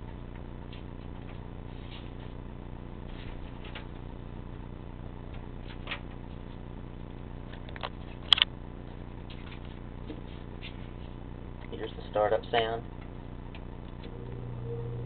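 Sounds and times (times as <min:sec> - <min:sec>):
box fan motor hum: 0:00.0 - 0:15.0.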